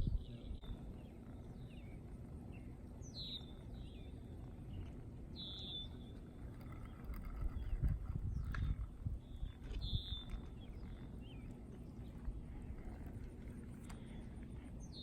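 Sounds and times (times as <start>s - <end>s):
birds chirping: 0.0s - 15.0s
low background rumble: 0.0s - 15.0s.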